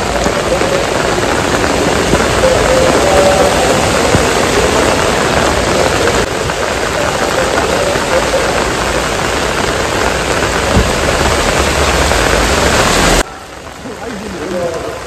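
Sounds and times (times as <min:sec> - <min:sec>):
heavy rain splashing on standing water: 0:00.0 - 0:15.0.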